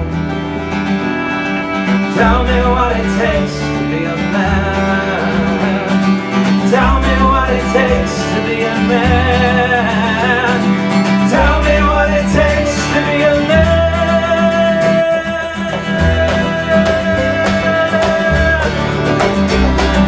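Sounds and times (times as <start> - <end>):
acoustic guitar: 0.0 - 20.0
bass: 0.0 - 20.0
wavering fiddle melody: 0.0 - 20.0.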